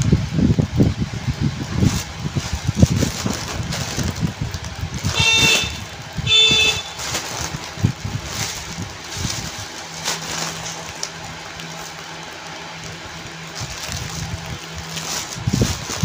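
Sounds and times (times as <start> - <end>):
foil balloon crinkling: 1.4 - 16.0.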